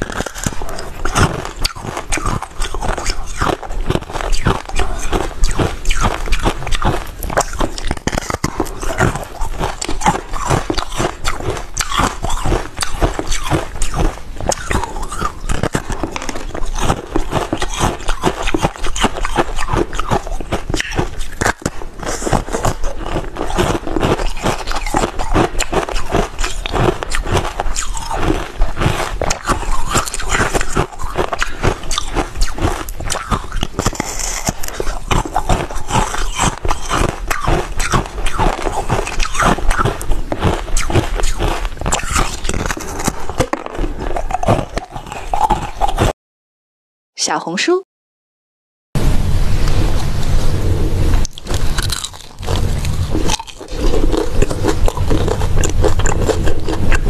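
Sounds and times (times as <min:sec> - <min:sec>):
ice being crunched: 0:00.0 - 0:46.1, 0:51.2 - 0:57.0.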